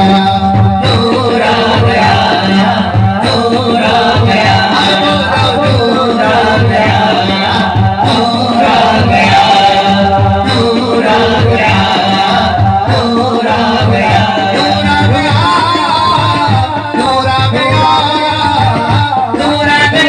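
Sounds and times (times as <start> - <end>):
low rhythmic beat: 0.0 - 20.0
man singing into a microphone: 0.0 - 20.0.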